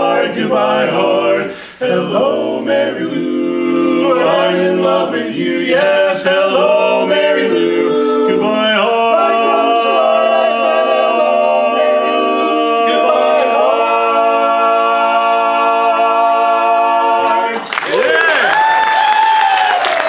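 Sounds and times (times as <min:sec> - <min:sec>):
male quartet singing a chord: 0:00.0 - 0:17.6.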